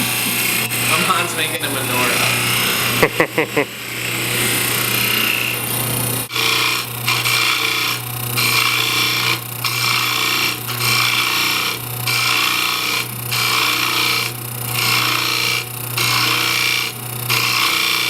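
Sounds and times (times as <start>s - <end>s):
motor hum: 0.0s - 18.0s
tool scraping spinning wood: 0.0s - 18.0s.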